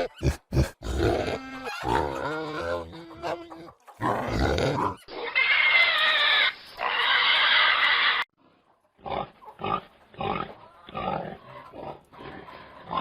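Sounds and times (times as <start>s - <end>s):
pigs grunting and squealing: 0.0s - 8.3s, 9.0s - 13.0s.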